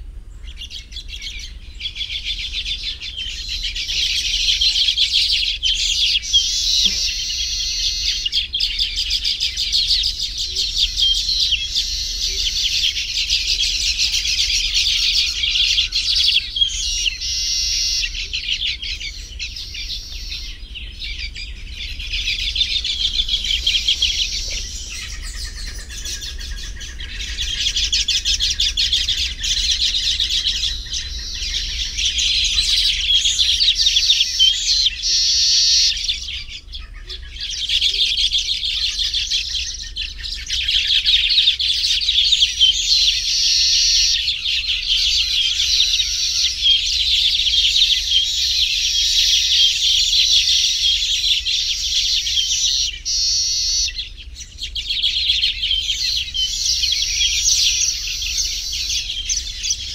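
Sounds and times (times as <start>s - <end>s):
weaver birds chirping: 0.0s - 59.9s.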